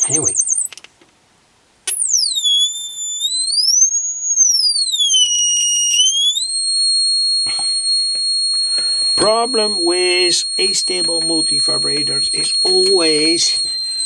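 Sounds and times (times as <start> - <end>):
high electronic whistle sweeping: 1.9 - 14.0.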